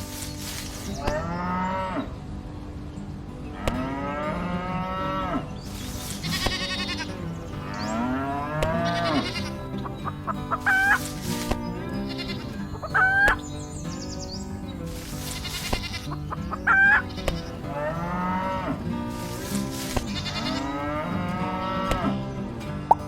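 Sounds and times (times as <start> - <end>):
farm animal calls: 0.0 - 2.2, 3.4 - 23.0
background music: 0.0 - 23.0.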